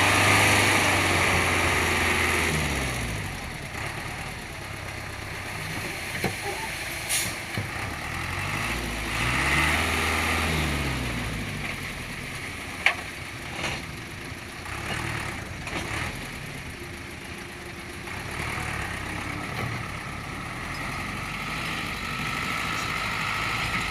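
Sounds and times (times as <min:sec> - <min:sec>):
diesel machinery engine running: 0:00.0 - 0:23.9.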